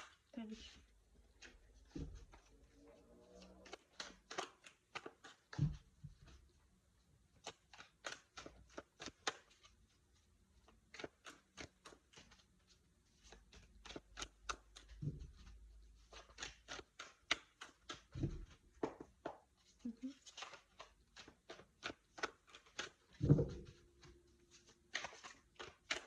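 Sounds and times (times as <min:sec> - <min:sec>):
cards shuffling: 0:01.3 - 0:06.6, 0:07.3 - 0:26.0.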